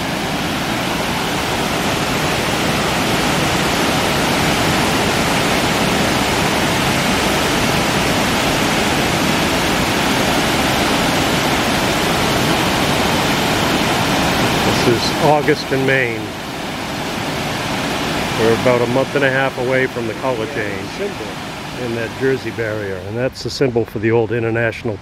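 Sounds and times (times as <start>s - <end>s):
water rushing over a dam: 0.0s - 25.0s.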